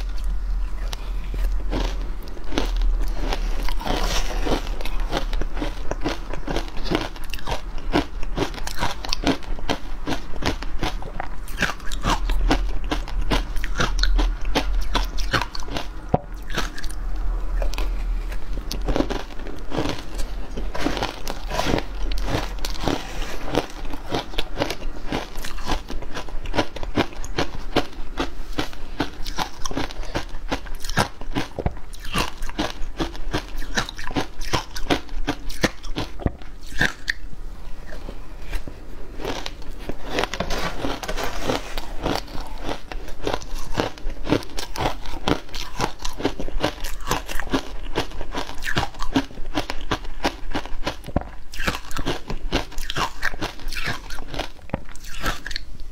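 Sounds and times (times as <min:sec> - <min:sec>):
ice being bitten and chewed: 0:00.0 - 0:55.7.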